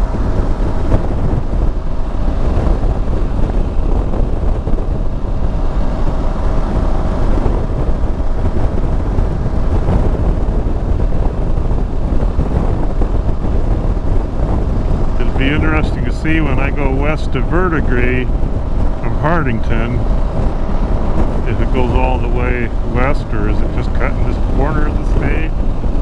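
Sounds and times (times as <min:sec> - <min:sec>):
motorcycle engine drone: 0:00.0 - 0:26.0
wind rushing over microphone: 0:00.0 - 0:26.0.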